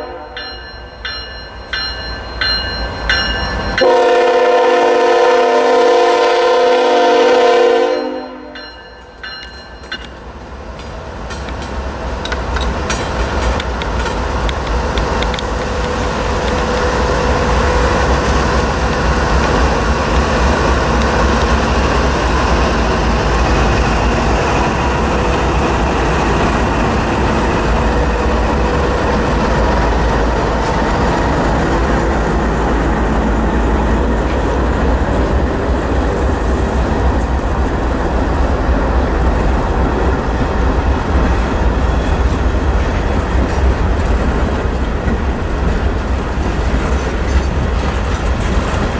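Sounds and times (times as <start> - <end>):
freight cars rolling on rails: 8.0 - 48.9.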